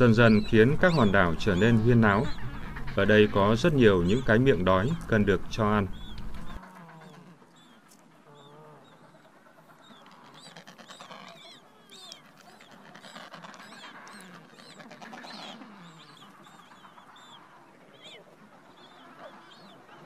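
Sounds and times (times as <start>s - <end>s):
lower penguin calls: 0.0s - 20.0s
penguin chicks peeping: 0.0s - 20.0s.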